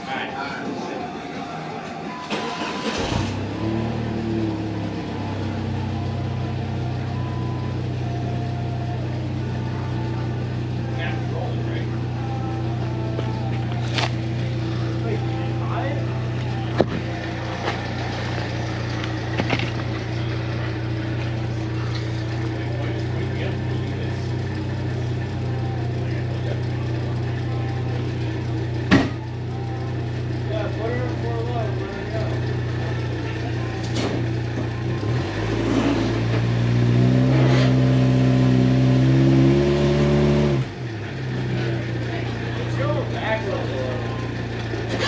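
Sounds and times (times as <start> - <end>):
engine idling: 1.9 - 37.0, 37.8 - 45.0.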